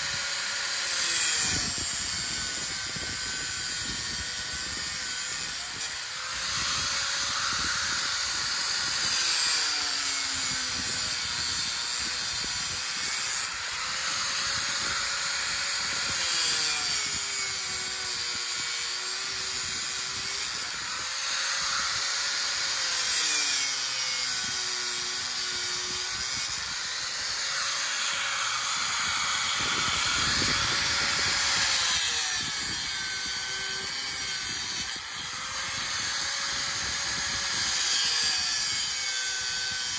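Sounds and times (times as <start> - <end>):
angle grinder cutting steel wire: 0.0 - 39.9.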